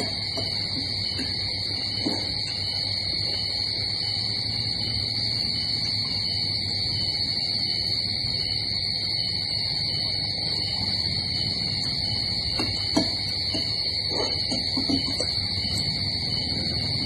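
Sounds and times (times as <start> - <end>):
shrill insect drone: 0.0 - 17.0.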